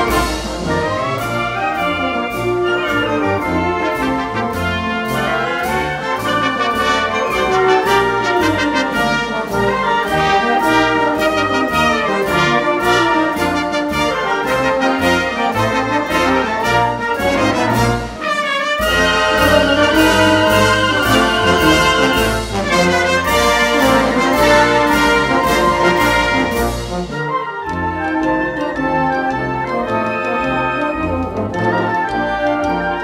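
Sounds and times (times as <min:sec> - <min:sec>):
percussion beat: 0:00.0 - 0:27.4
trumpets and trombones: 0:00.0 - 0:33.0
wind band playing a march: 0:00.0 - 0:33.0.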